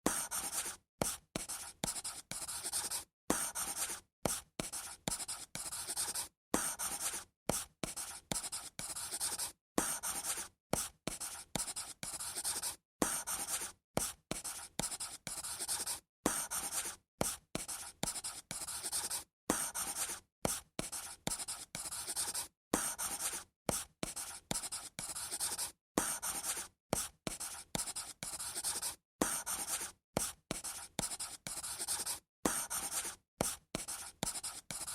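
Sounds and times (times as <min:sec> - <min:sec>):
pen scratching on paper: 0:00.1 - 0:34.9.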